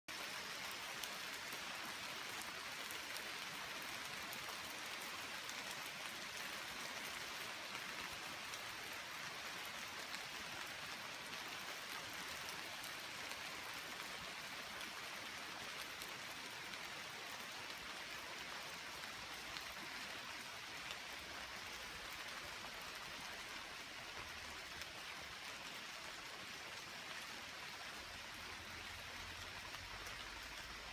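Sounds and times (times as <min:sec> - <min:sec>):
rain on leaves: 0:00.1 - 0:30.9.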